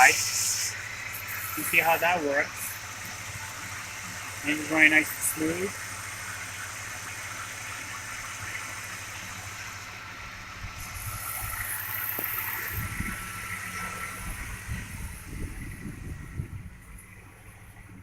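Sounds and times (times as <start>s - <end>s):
car engine running while driving: 0.0s - 18.0s
road noise: 0.0s - 18.0s.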